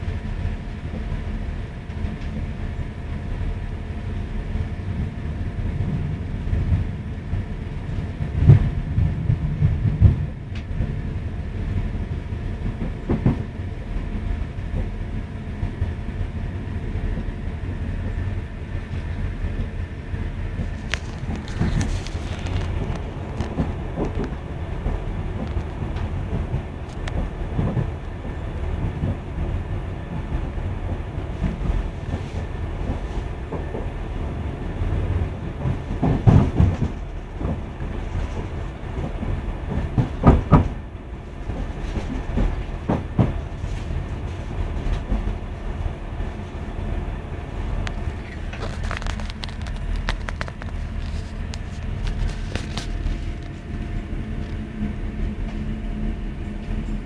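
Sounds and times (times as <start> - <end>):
rail joint clicks: 0.0 - 57.0
train wheels rumbling on track: 0.0 - 57.0.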